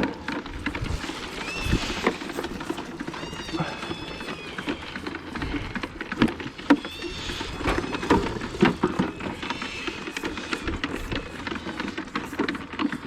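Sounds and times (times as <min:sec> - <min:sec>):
buckets knocking and clattering: 0:00.0 - 0:13.0.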